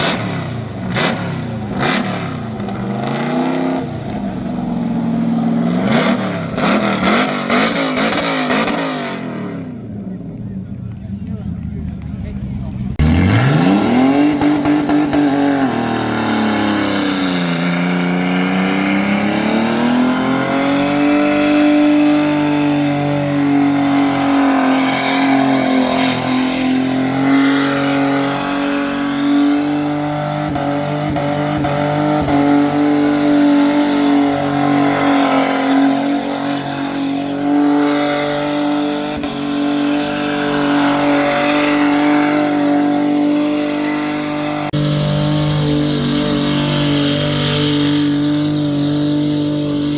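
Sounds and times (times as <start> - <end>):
car engine at high revs: 0.0 - 49.9.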